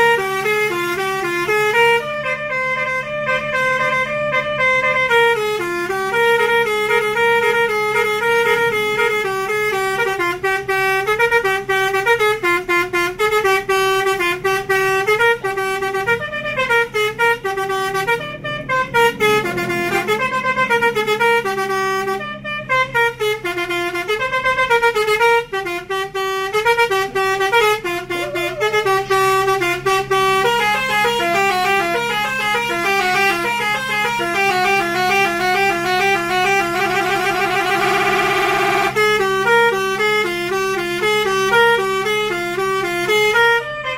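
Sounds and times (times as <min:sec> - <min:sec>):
bus engine humming: 0:00.0 - 0:43.9
melodic multi-tone bus horn: 0:00.0 - 0:43.9.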